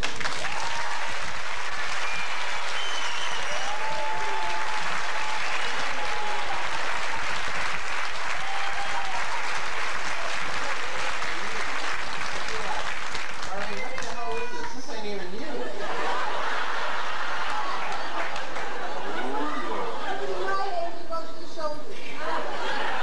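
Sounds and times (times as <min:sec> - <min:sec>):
audience applauding and cheering: 0:00.0 - 0:15.0, 0:16.1 - 0:19.9.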